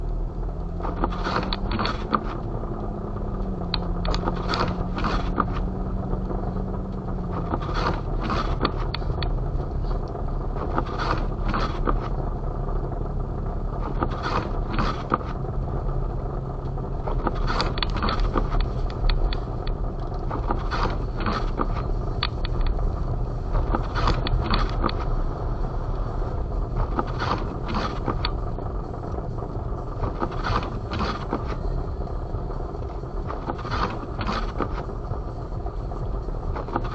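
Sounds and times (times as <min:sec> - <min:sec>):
vehicle engine rumbling: 0:00.0 - 0:36.9.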